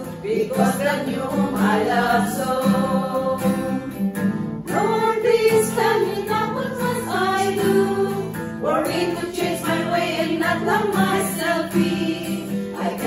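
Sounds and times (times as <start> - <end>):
women singing in unison: 0.0 - 4.0, 4.7 - 13.0
acoustic guitar: 0.0 - 13.0.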